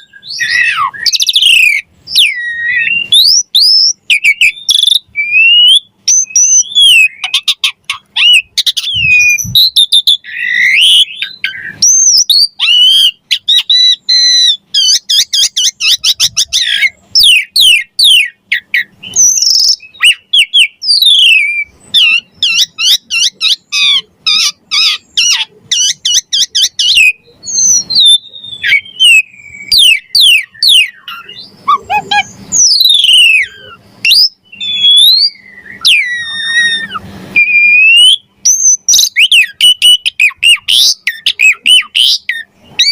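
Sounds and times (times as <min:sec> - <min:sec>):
starling singing: 0:00.0 - 0:42.9.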